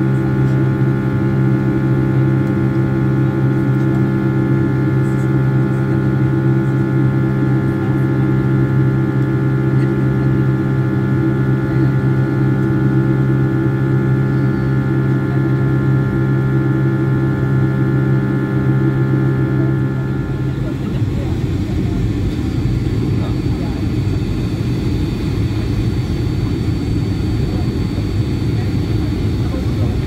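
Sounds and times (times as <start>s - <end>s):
jet engine drone in cabin: 0.0s - 30.0s.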